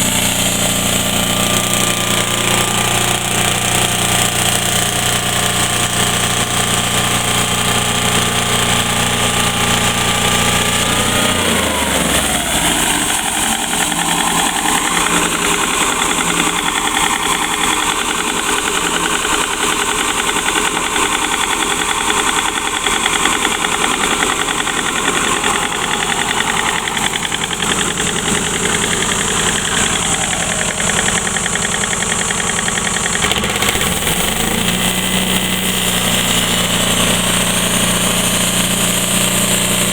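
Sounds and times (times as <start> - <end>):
band saw cutting log: 0.0 - 39.9
saw mill engine running: 0.0 - 39.9.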